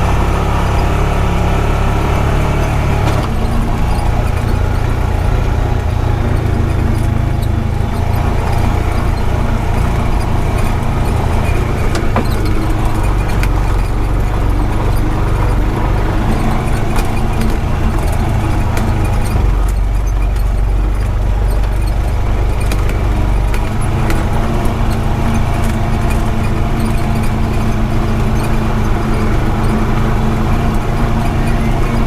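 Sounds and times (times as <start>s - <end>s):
utility vehicle engine running: 0.0s - 32.0s
clicks and rattles: 2.3s - 32.0s.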